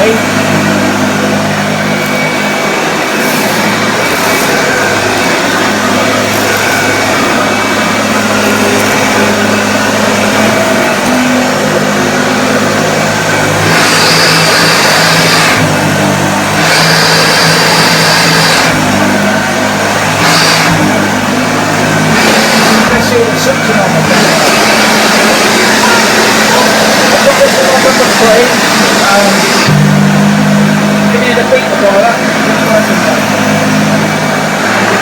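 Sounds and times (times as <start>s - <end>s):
vacuum cleaner running over carpet: 0.0s - 35.0s.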